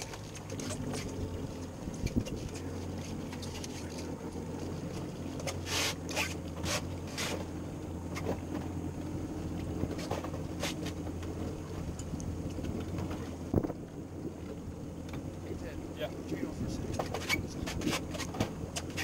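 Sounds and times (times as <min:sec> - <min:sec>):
boat engine low hum: 0:00.0 - 0:19.0
water noise: 0:00.0 - 0:19.0
wind: 0:00.0 - 0:19.0.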